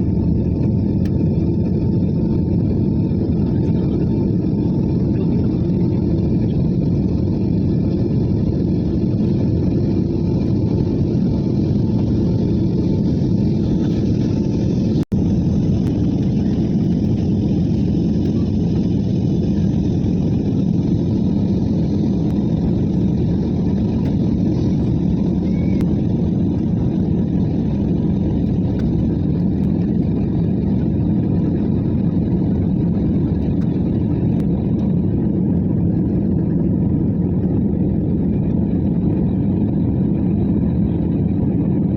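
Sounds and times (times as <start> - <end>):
airliner engines rumbling: 0.0 - 41.9.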